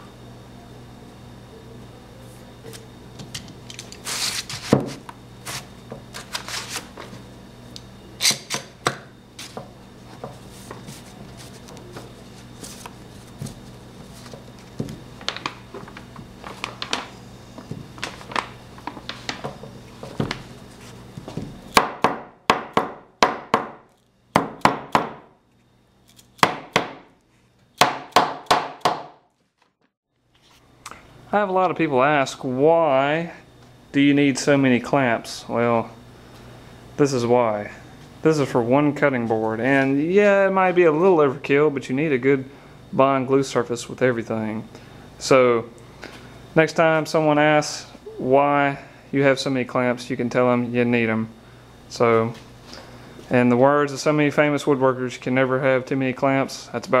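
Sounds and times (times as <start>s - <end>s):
steady low hum: 0.0s - 29.3s, 30.2s - 57.0s.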